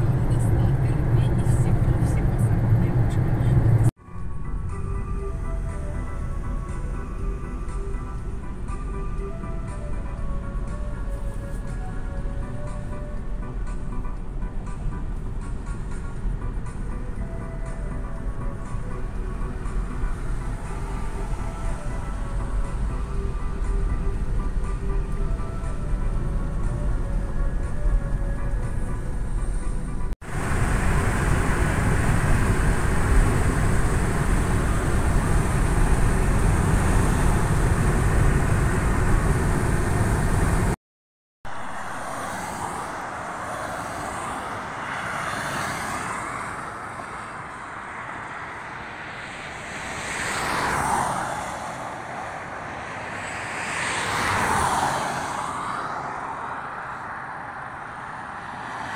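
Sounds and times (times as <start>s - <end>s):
car road and engine rumble: 0.0s - 40.8s, 41.4s - 58.9s
traffic noise: 0.0s - 40.8s, 41.4s - 58.9s
vehicles passing: 0.0s - 40.8s, 41.5s - 58.9s.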